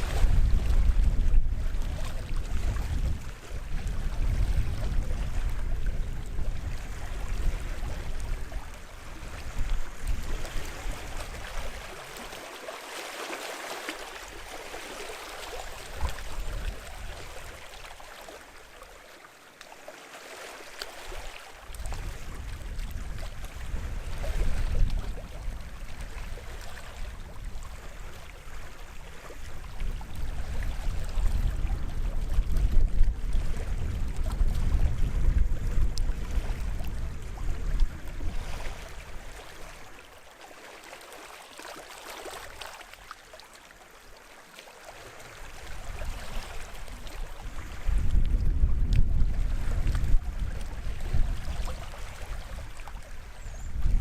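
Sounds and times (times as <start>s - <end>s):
sea waves lapping on shore: 0.0s - 54.0s.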